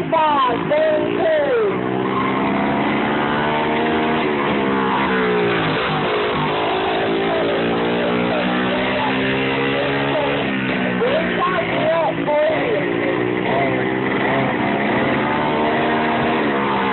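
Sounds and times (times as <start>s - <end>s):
race car engine at high revs: 0.0s - 16.9s.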